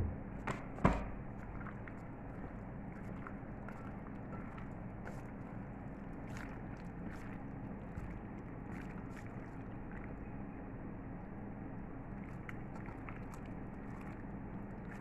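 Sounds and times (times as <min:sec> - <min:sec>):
steady low hum: 0:00.0 - 0:15.0
wet squelches of raw chicken: 0:01.2 - 0:10.5, 0:12.0 - 0:15.0.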